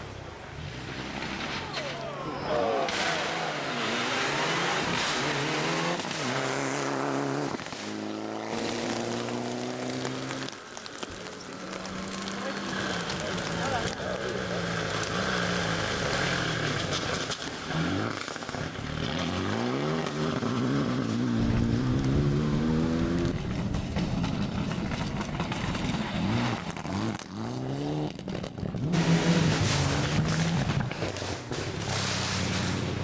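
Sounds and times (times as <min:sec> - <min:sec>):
car engine revving through gears: 0:02.9 - 0:10.6, 0:11.7 - 0:23.4, 0:24.2 - 0:31.2.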